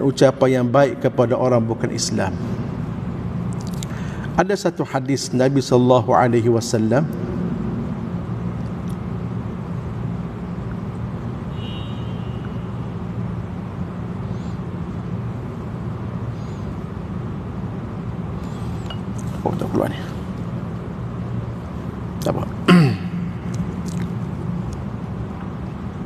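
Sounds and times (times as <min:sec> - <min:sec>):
room hum and rumble: 0:00.0 - 0:26.0.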